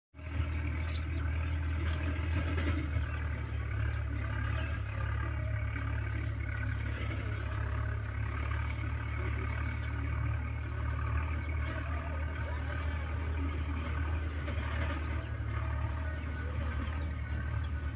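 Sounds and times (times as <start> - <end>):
steady low rumble: 0.2 - 17.9.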